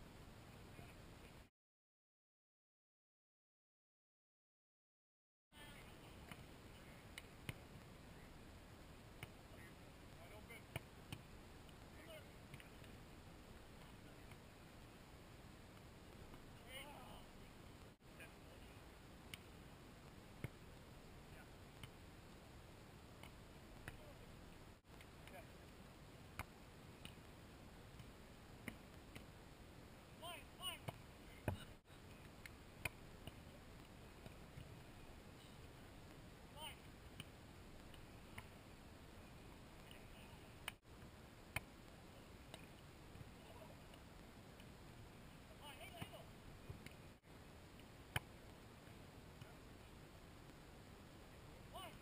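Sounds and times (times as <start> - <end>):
faint hiss: 5.6 - 52.0.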